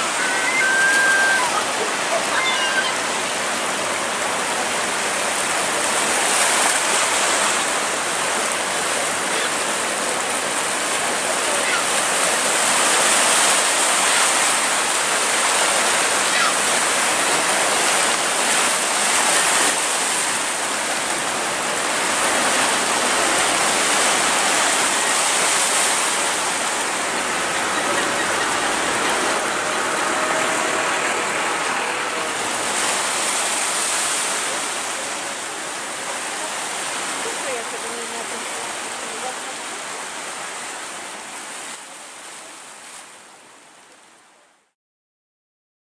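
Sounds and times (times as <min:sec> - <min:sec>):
surf washing over rocks: 0:00.0 - 0:44.4.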